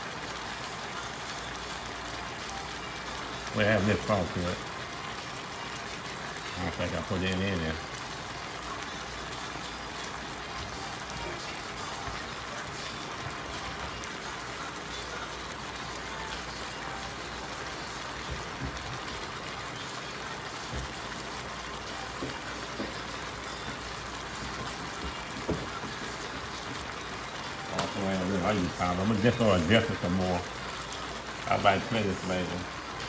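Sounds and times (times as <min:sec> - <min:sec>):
chicken sizzling in sauce: 0:00.0 - 0:33.0.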